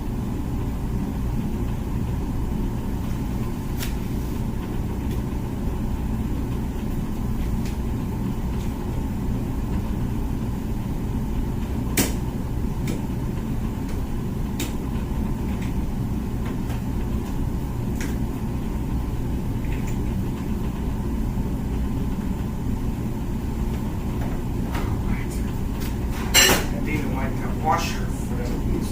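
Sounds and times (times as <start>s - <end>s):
dishwasher humming: 0.0s - 28.9s.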